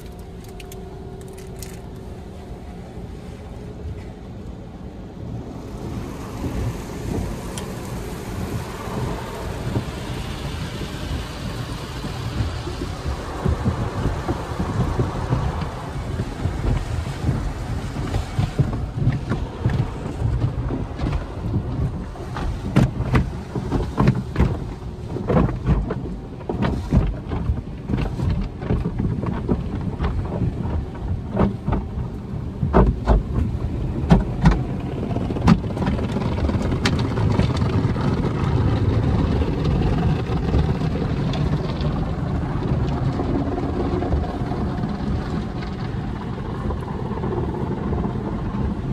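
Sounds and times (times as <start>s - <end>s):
car wash brushes slapping car: 0.0s - 48.9s
water spraying: 0.0s - 48.9s.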